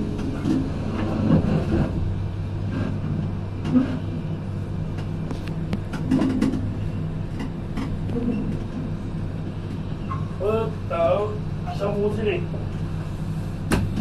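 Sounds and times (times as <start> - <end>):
train carriage hum: 0.0 - 14.0.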